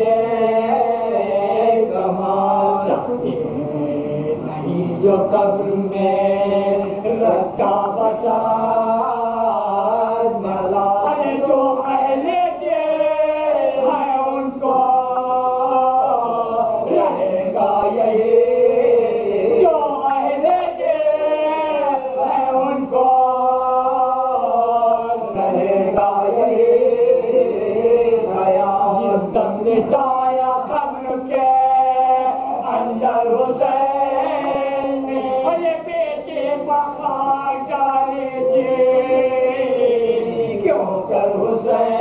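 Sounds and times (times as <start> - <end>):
men chanting together: 0.0 - 42.0.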